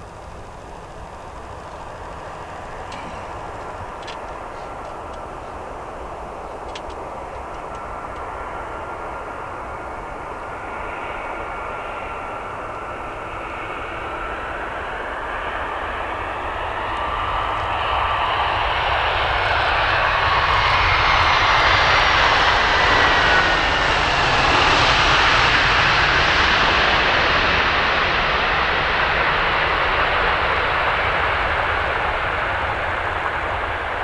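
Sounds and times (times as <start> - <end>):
aircraft passing by: 0.0 - 34.0.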